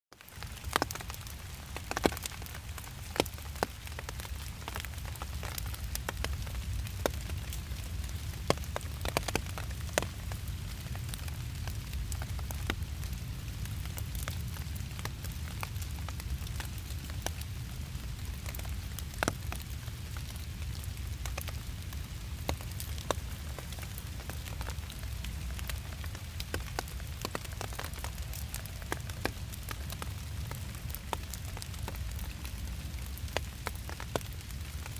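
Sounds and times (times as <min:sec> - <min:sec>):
raindrops tapping on leaves: 0:00.1 - 0:34.9.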